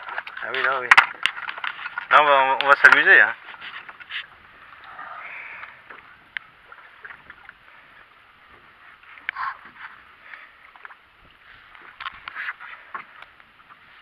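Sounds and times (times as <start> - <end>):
faint water: 0.0 - 14.0.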